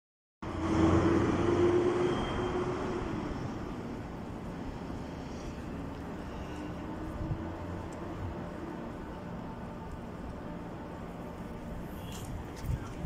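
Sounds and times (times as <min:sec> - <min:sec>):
outdoor background noise: 0:00.4 - 0:13.0.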